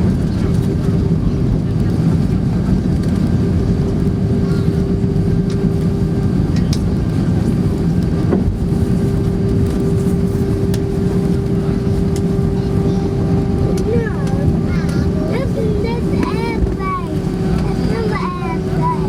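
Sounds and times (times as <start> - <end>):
low rumble of engines: 0.0 - 19.0
air conditioning hum: 1.3 - 19.0.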